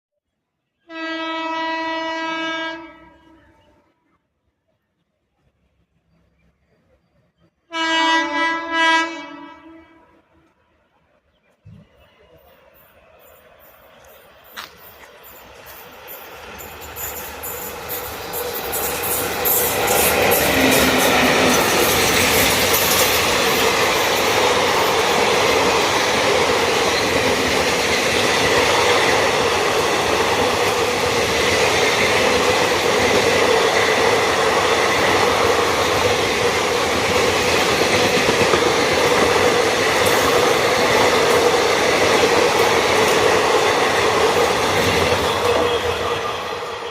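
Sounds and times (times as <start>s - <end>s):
train rumbling past: 4.9s - 46.9s.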